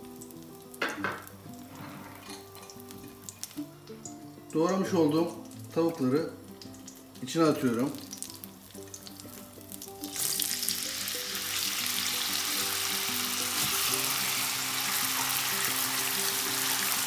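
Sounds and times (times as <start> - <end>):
background music sustained notes: 0.0 - 17.0
chicken sizzling in hot oil: 0.0 - 17.0.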